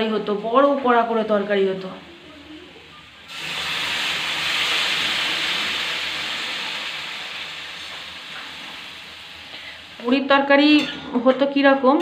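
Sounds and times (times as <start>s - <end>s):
water sizzling in hot pan: 0.0s - 11.2s.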